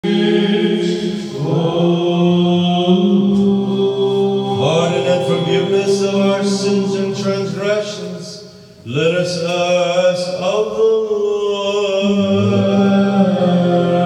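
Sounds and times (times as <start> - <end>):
men singing chant in harmony: 0.0 - 8.3, 8.9 - 14.0.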